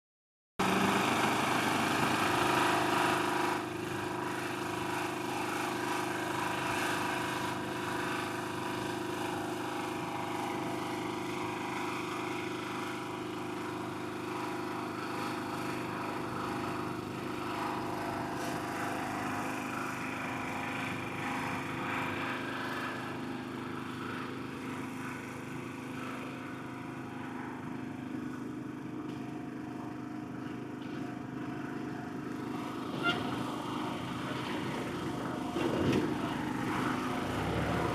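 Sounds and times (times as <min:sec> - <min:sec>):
small engine running: 0:00.6 - 0:37.9.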